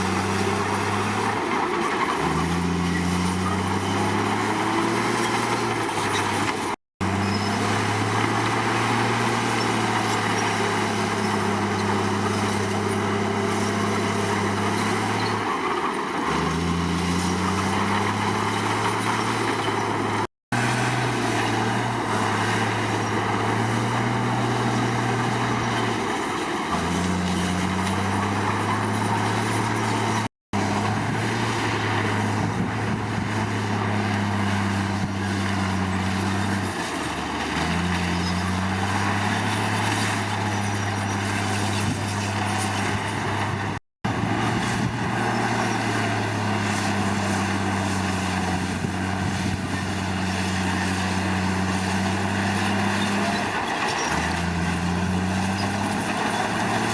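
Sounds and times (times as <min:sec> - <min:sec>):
bulldozer diesel engine under load: 0:00.0 - 0:56.9
machinery and track noise: 0:00.0 - 0:56.9.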